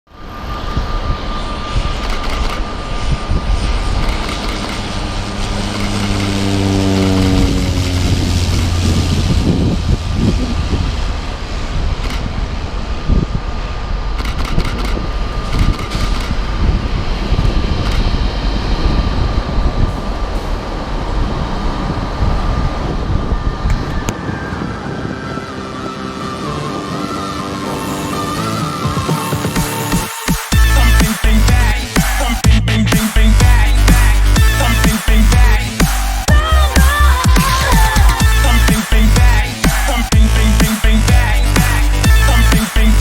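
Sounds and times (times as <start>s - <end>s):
propeller aircraft passing by: 0.2s - 43.0s.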